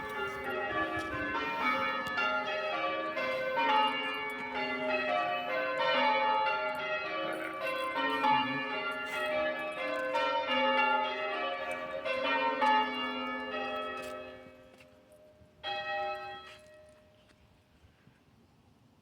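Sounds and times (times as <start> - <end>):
church bells ringing: 0.0 - 17.1.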